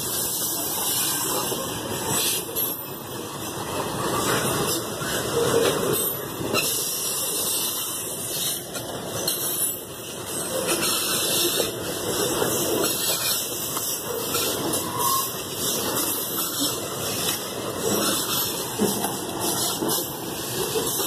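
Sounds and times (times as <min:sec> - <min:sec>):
train wheels rushing on rails: 0:00.0 - 0:21.0
wheels clicking over track: 0:00.0 - 0:21.0.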